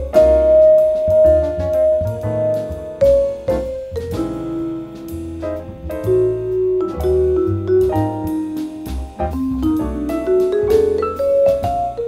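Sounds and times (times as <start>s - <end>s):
double bass: 0.0s - 12.0s
drums: 0.0s - 12.0s
piano: 0.0s - 12.0s
vibraphone: 0.0s - 12.0s.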